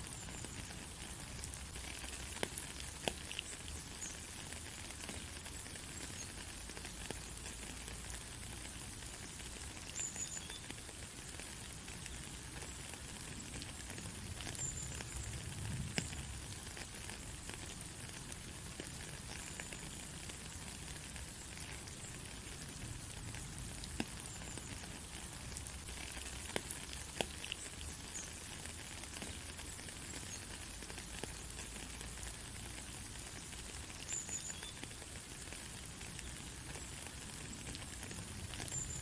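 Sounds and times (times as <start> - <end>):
raindrops ticking: 0.0 - 39.0
steady rain hiss: 0.0 - 39.0.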